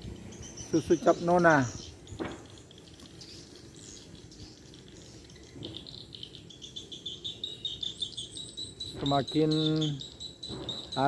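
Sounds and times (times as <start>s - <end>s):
swiftlets twittering: 0.0s - 11.0s.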